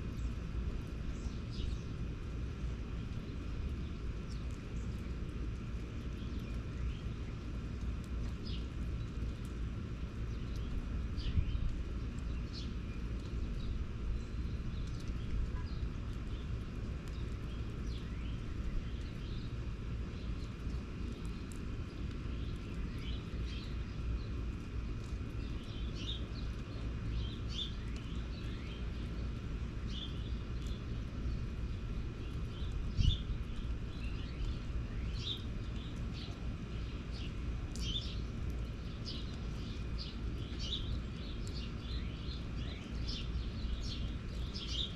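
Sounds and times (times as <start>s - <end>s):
small birds chirping: 0.0s - 44.9s
steady low rumble: 0.0s - 44.9s.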